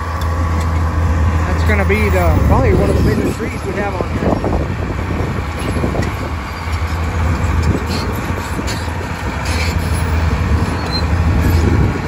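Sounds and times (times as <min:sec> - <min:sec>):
bulldozer diesel engine: 0:00.0 - 0:12.0
bulldozer tracks clanking: 0:00.0 - 0:12.0.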